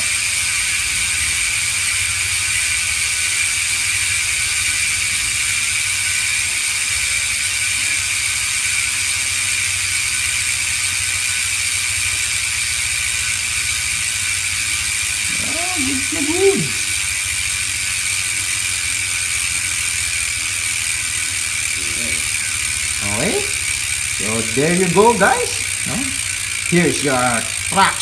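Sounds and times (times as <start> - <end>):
bike freehub clicking buzz: 0.0 - 28.0.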